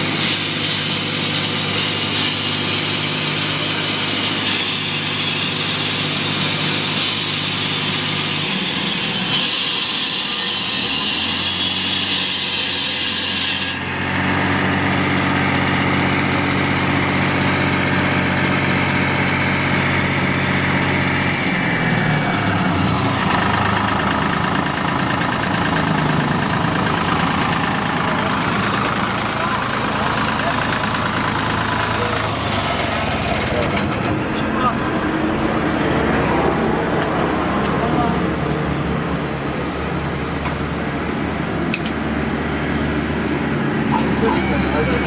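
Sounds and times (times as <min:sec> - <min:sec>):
concrete saw engine running: 0:00.0 - 0:45.0.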